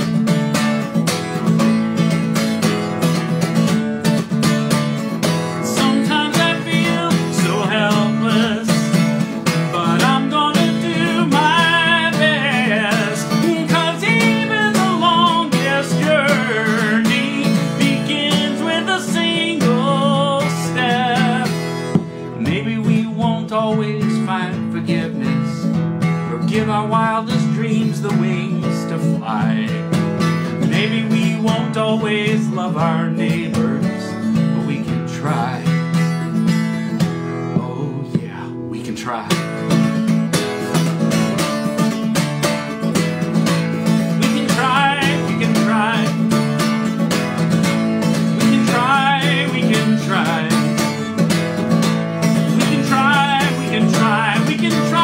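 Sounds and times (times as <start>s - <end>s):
strummed acoustic guitar: 0.0s - 55.0s
man singing: 5.5s - 36.1s, 36.9s - 41.9s, 43.5s - 55.0s.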